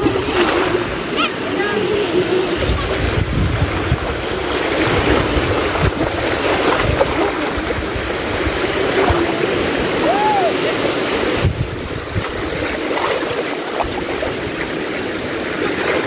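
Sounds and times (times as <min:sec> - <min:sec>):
small waves lapping on rock: 0:00.0 - 0:16.0.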